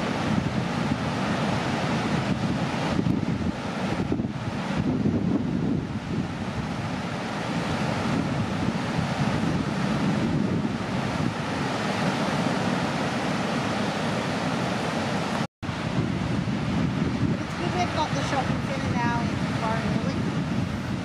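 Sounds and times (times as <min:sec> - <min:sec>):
ocean surf breaking: 0:00.0 - 0:21.0
wind buffeting microphone: 0:00.0 - 0:21.0.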